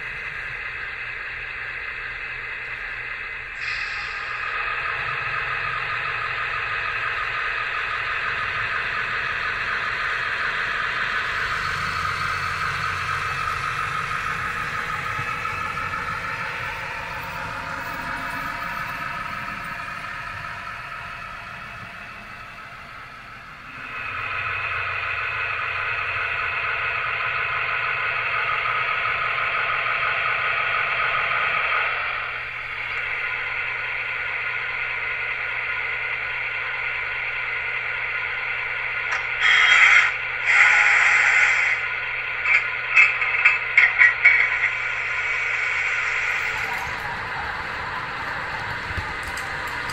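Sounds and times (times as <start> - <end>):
toy locomotive engine sound from speaker: 0.0 - 49.9.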